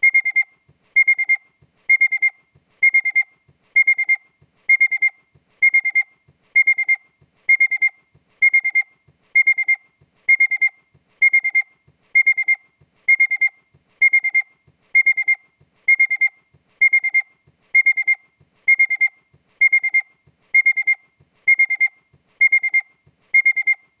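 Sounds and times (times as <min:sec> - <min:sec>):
high-pitched car warning beeps: 0:00.0 - 0:24.0.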